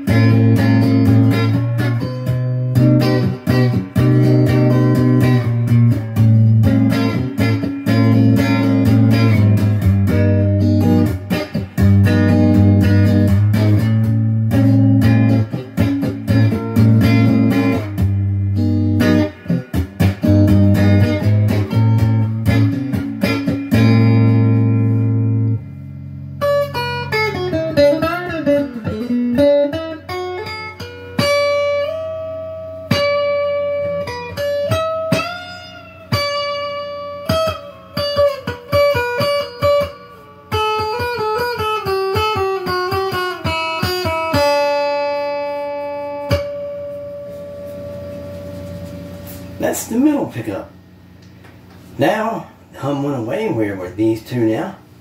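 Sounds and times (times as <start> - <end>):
electric guitar chords and lead lines: 0.0 - 50.0.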